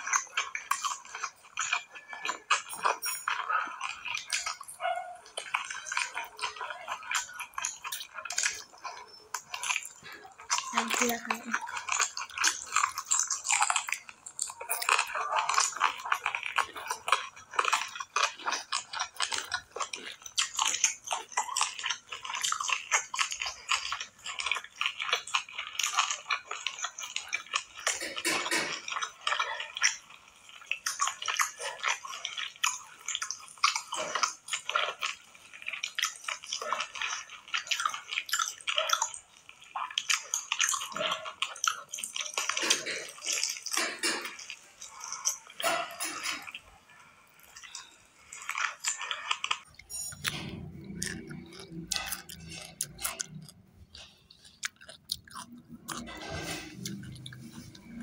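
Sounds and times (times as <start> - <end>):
wet chewing and hand mixing: 0.0 - 58.0.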